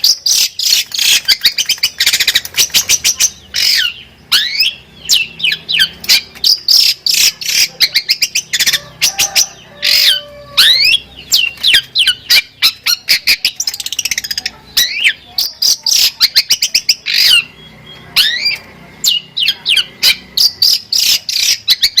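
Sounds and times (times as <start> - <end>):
bird singing with whistles and trills: 0.0 - 22.0.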